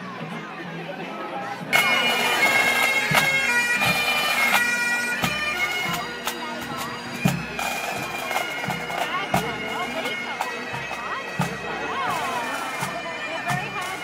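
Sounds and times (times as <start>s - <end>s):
bagpipes playing a tune: 1.5s - 14.0s.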